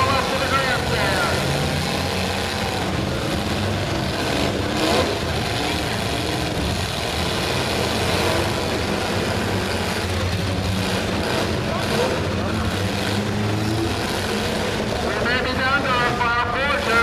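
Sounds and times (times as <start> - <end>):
car engines revving together: 0.0 - 17.0.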